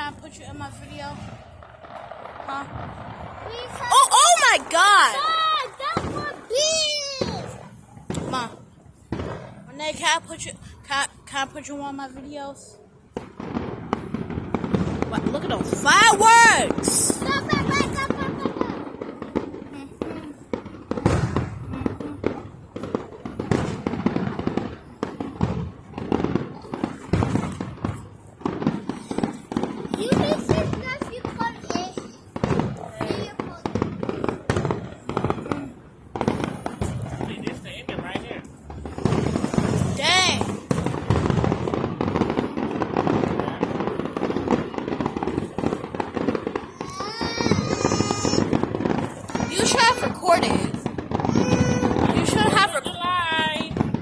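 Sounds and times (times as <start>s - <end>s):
fireworks booming and cracking: 0.0s - 54.0s.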